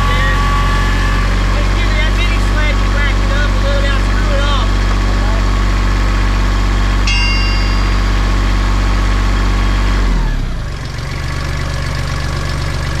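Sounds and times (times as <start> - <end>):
tractor engine revving and idling: 0.0 - 13.0.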